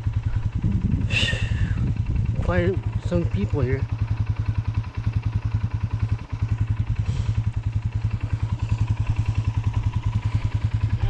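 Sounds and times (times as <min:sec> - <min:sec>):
quad engine chugging: 0:00.0 - 0:11.0.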